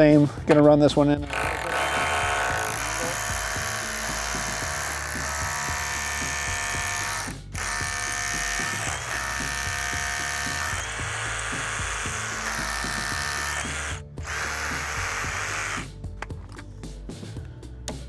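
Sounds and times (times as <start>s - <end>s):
power drill driving screw: 1.2s - 15.9s.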